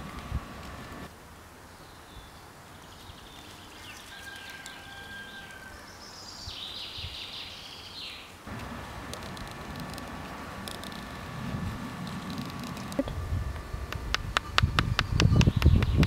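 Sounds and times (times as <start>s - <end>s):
steady hiss: 0.0s - 4.1s, 5.9s - 15.2s
woodland birds singing: 1.7s - 16.0s.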